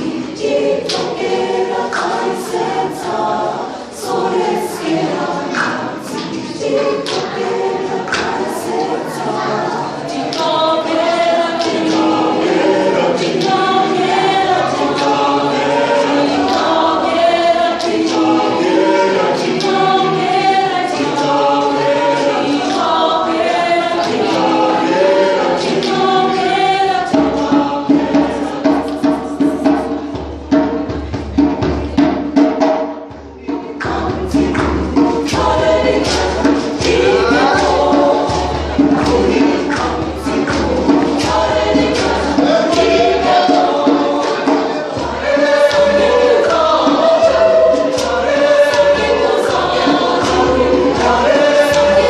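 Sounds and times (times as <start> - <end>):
mixed choir singing in harmony: 0.0 - 52.0
rhythmic beat of sharp hits: 0.0 - 52.0.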